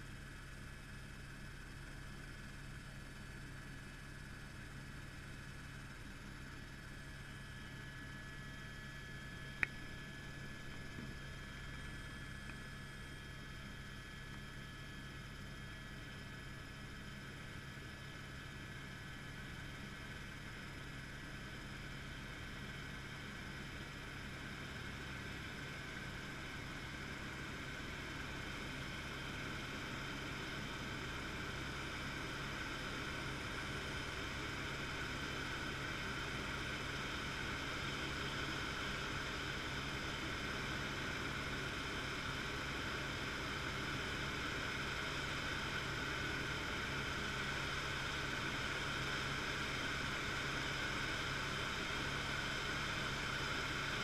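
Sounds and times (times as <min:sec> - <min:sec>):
helicopter rotor and engine noise: 0:00.0 - 0:54.0.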